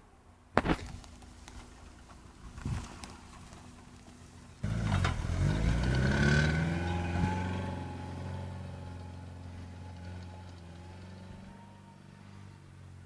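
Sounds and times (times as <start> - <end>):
car engine accelerating: 0.9 - 13.0.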